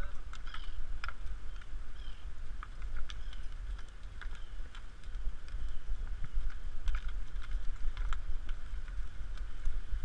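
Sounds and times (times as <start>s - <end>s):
hooves on wet sand: 0.0s - 10.0s
wind rumble on microphone: 0.0s - 10.0s.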